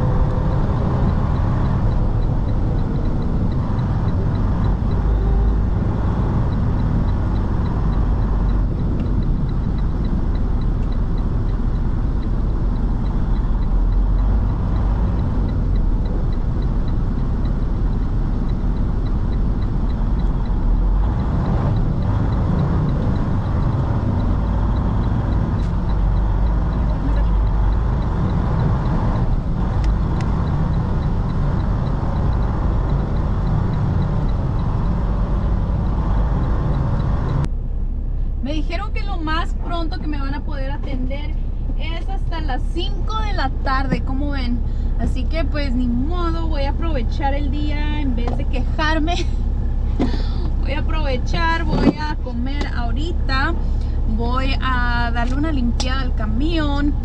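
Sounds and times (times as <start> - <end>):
road noise: 0.0 - 57.0
truck diesel engine rumble: 0.0 - 57.0.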